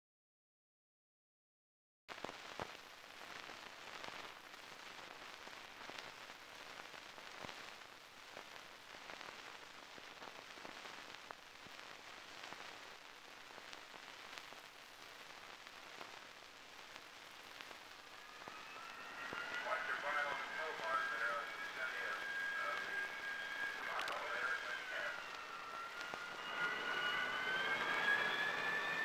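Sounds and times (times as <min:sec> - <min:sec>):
film soundtrack hiss: 0:02.1 - 0:29.0.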